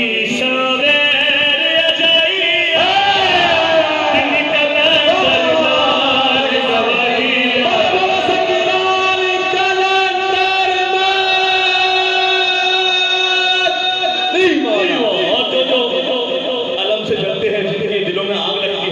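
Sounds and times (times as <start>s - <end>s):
men singing a devotional chant: 0.0s - 17.0s.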